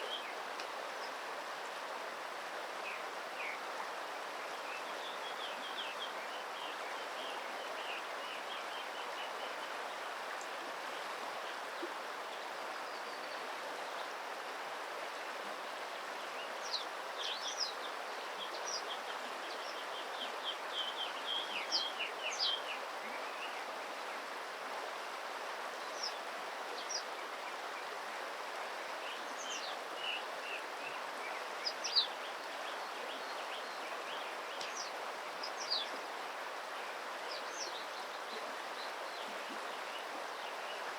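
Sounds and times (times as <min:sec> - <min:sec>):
flowing stream water: 0:00.0 - 0:40.9.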